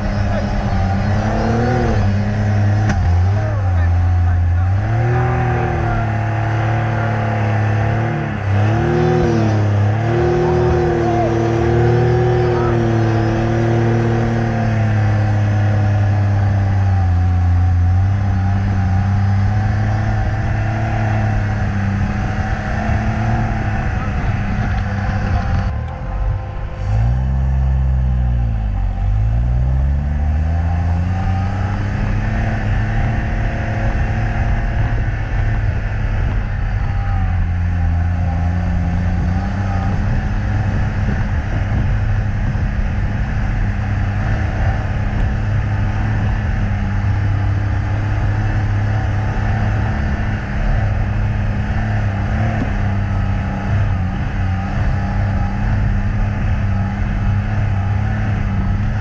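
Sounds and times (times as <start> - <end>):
car engine pulling under load: 0.0 - 59.0.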